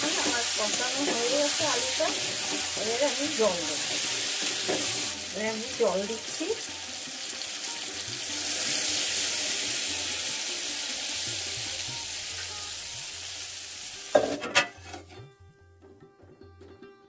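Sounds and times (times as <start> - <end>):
water sizzling in hot pan: 0.0 - 15.2.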